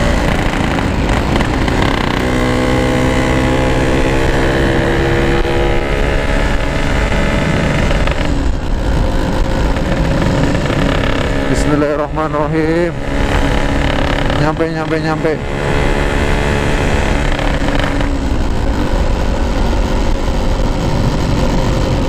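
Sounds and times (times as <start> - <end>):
motorcycle engine running: 0.0 - 22.0
wind rush on microphone: 0.0 - 22.0.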